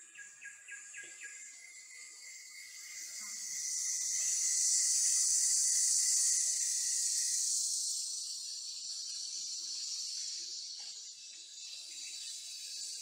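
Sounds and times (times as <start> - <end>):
insects buzzing high hiss: 0.0 - 13.0
low steady insect tone: 0.0 - 13.0.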